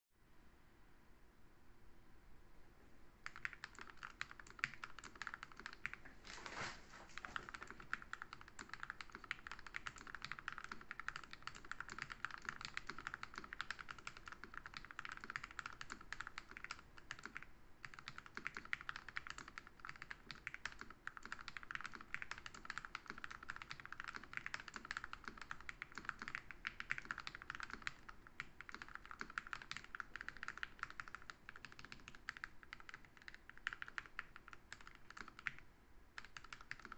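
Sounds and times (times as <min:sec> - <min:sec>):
fast typing on mechanical keyboard: 0:03.2 - 0:06.0, 0:07.2 - 0:35.6, 0:36.2 - 0:36.9.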